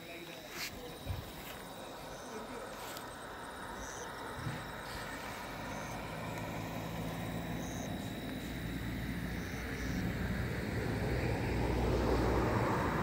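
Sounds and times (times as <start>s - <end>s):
vehicle engine hum approaching: 0.2s - 13.0s.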